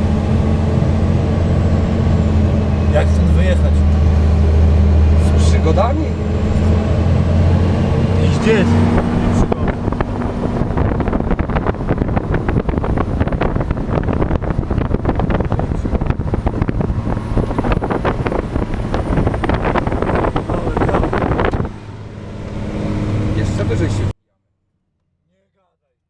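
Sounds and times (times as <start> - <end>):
truck engine running: 0.0 - 24.1
wind buffeting microphone: 0.0 - 24.1.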